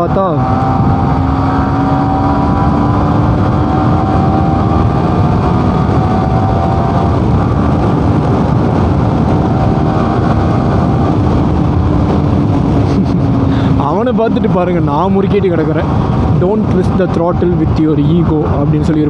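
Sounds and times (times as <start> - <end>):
motorcycle engine cruising: 0.0 - 19.0
wind rumble on microphone: 0.0 - 19.0.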